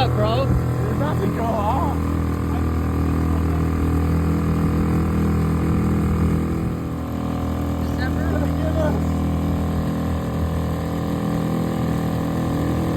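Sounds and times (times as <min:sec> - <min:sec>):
boat engine running: 0:00.0 - 0:12.9.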